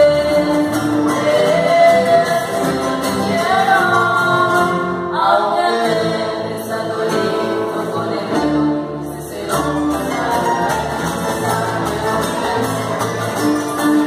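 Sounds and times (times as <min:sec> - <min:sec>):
acoustic guitar: 0:00.0 - 0:14.0
double bass: 0:00.0 - 0:14.0
voices singing together: 0:00.0 - 0:14.0.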